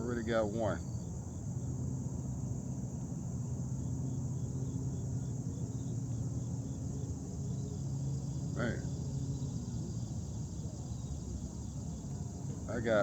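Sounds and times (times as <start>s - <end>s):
insects trilling and chirping: 0.0s - 13.0s
steady low hum: 0.0s - 13.0s.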